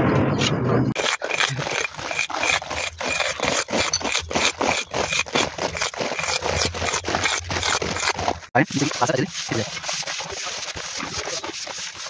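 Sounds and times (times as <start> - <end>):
cloth rubbing on brick: 1.0 - 12.0.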